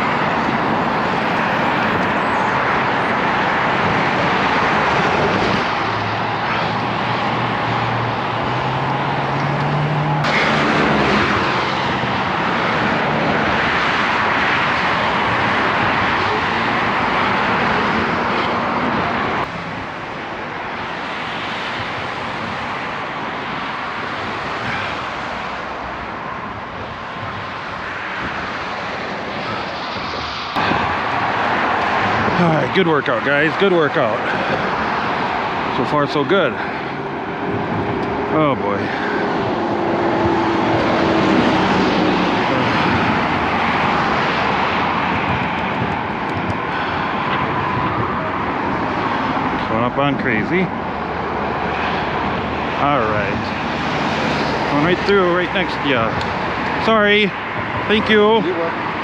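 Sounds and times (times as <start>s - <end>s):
passing vehicle engine hum: 0.0s - 19.9s, 20.9s - 59.0s
city traffic roar: 0.0s - 59.0s.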